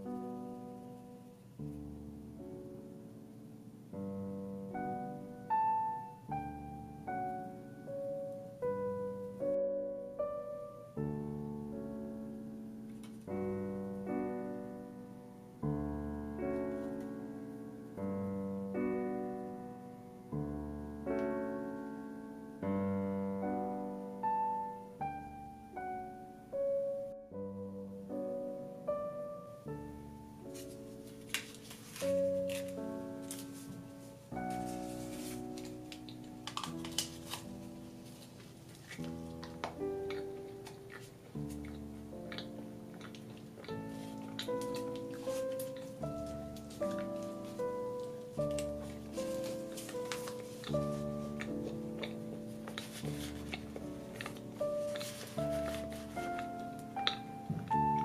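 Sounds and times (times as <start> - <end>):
slow solo piano music: 0.0 - 58.0.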